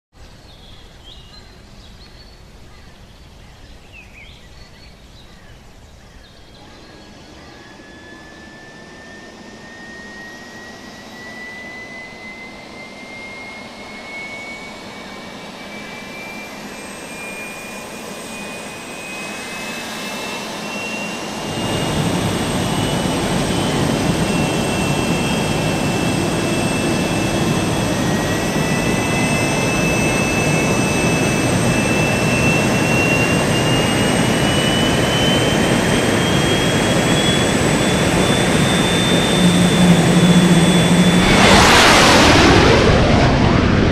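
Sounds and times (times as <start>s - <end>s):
jet turbine whine: 0.2s - 43.9s
jet exhaust rush: 6.7s - 43.9s.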